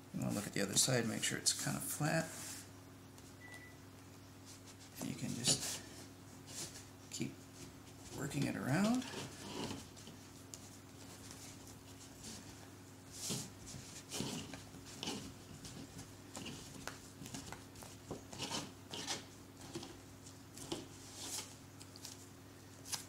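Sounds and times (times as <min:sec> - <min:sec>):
faint steady hum: 0:00.0 - 0:23.0
vinyl patch rustling and crinkling: 0:04.0 - 0:23.0.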